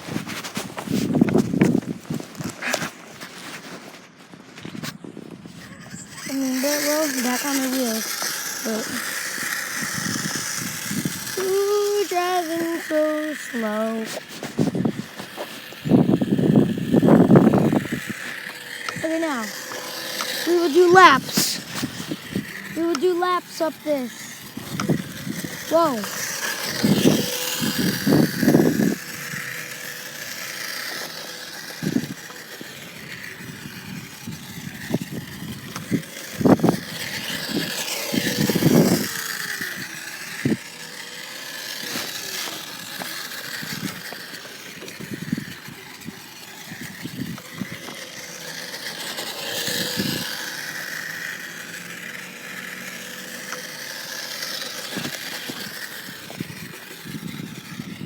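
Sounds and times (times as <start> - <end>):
rc truck motor whine: 0.0 - 58.0.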